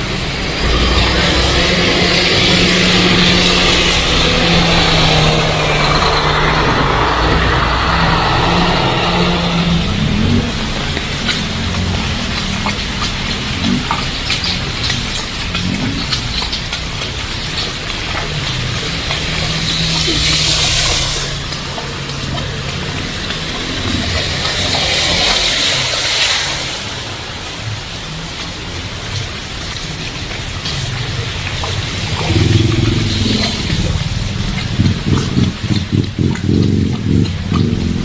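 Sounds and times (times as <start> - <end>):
heavy rain on a street: 0.0 - 38.0.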